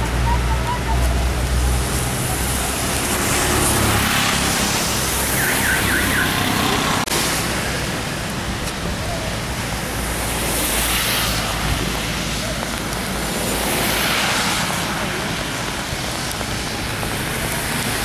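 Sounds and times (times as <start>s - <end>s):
street background hiss and hum: 0.0s - 18.0s.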